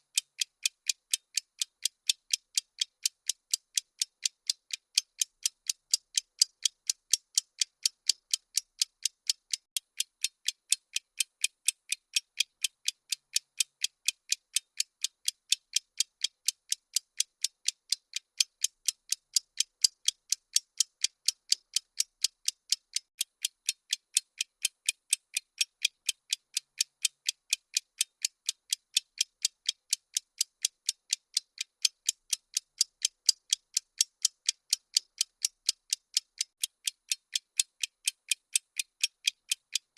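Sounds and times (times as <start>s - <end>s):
bomb timer ticking: 0.0s - 39.9s.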